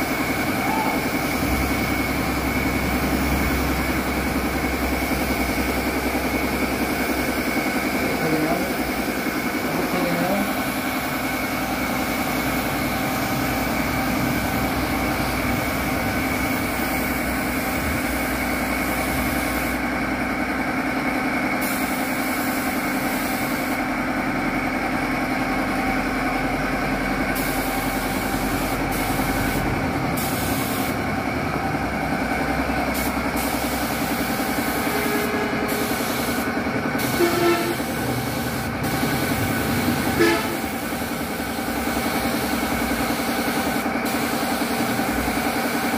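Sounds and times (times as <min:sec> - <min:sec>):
air compressor humming: 0:00.0 - 0:45.9.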